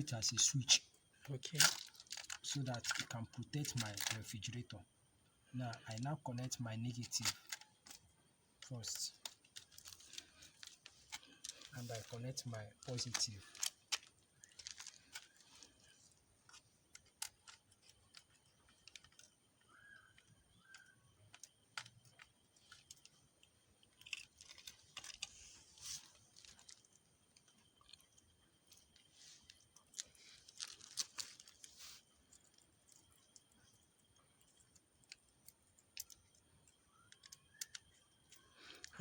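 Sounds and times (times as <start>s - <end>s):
cables clicking and rustling: 0.0s - 39.0s.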